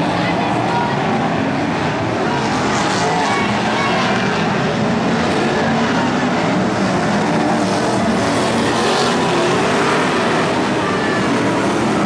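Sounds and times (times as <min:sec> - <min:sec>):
racing car engines running hard: 0:00.0 - 0:12.0.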